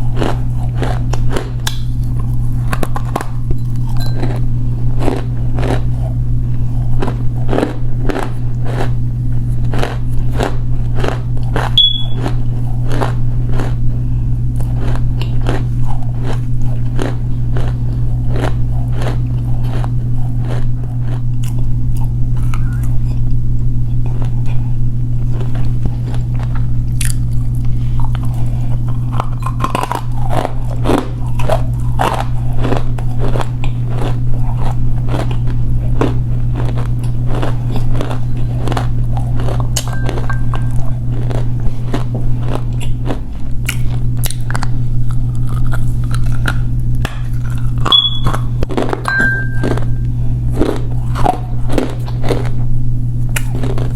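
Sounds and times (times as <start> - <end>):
crunchy chewing: 0.0 - 53.9
steady low hum: 0.0 - 53.9.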